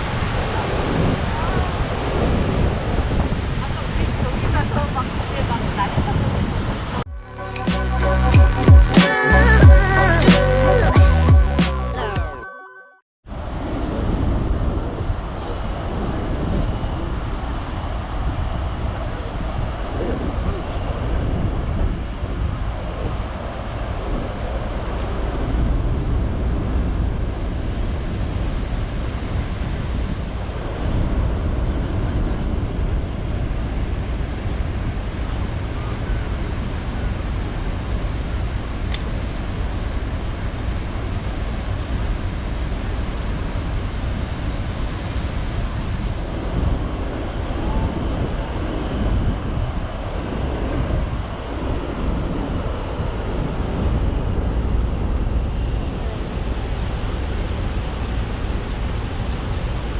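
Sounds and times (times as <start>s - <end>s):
wind on microphone: 0.0s - 7.3s, 13.3s - 59.9s.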